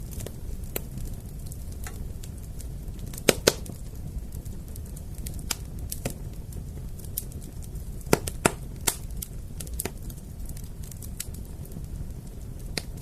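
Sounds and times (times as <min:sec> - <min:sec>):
fire crackling and popping: 0:00.0 - 0:13.0
low rumble of burning: 0:00.0 - 0:13.0.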